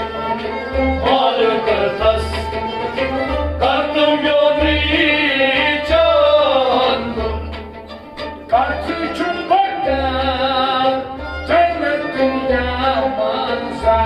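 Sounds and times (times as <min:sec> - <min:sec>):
men singing: 0:00.0 - 0:07.7, 0:08.5 - 0:14.0.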